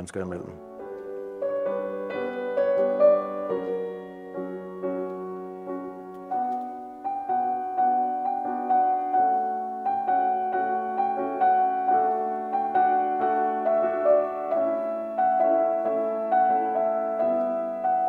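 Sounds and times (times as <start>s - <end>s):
solo piano piece: 0.0s - 18.0s.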